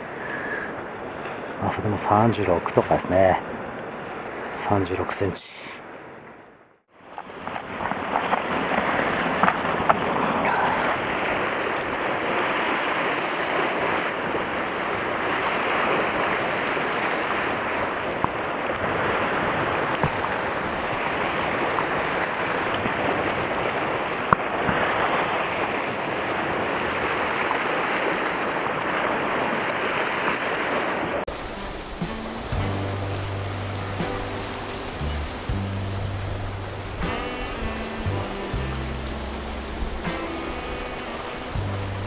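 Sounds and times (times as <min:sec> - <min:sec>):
surf washing against rocks: 0:06.9 - 0:42.0.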